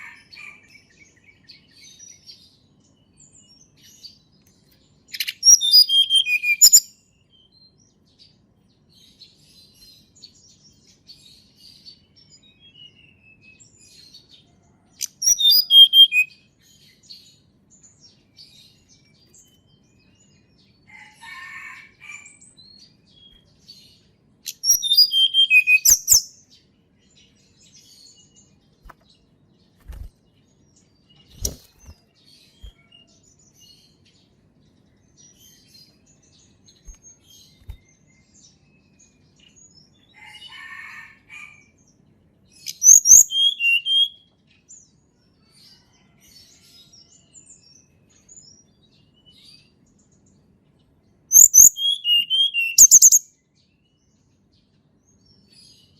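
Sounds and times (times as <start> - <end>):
faint bird chirps: 0.0 - 41.8, 42.5 - 49.8, 51.2 - 54.2
songbird singing bright phrases: 0.0 - 55.9.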